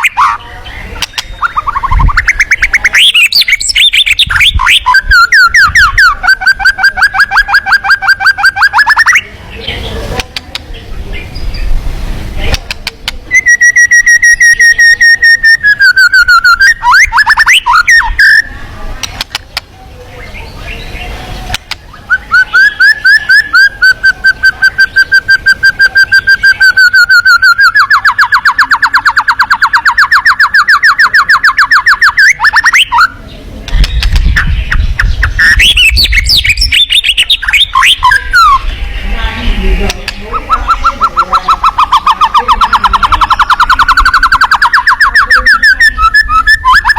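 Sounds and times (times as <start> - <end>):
sweeping bird chirps: 0.0 - 10.0, 13.3 - 18.8, 20.1 - 46.9
songbird trilling: 0.0 - 11.8, 12.4 - 46.9.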